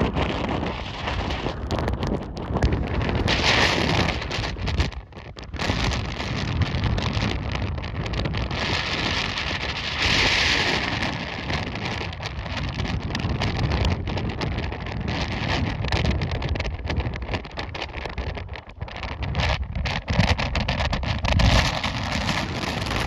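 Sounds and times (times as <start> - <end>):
blizzard wind buffeting microphone: 0.0 - 23.0.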